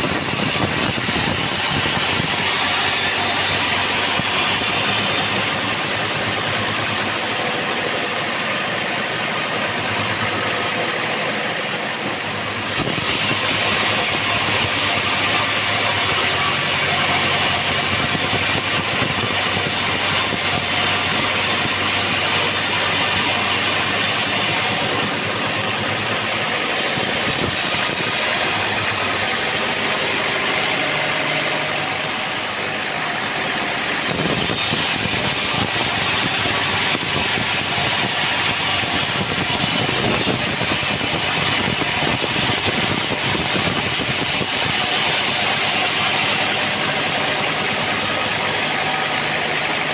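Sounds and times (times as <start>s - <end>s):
band saw hum: 0.0s - 49.9s.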